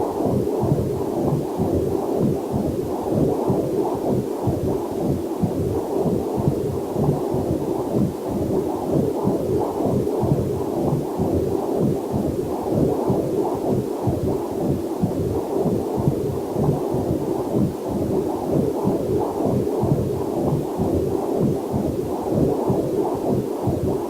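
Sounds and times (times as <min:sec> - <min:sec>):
heartbeat on doppler monitor: 0:00.0 - 0:24.0.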